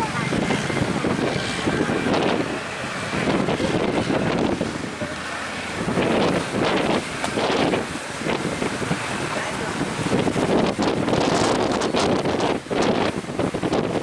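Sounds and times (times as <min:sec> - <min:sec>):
large waves breaking: 0:00.0 - 0:14.0
wind buffeting microphone: 0:00.0 - 0:14.0.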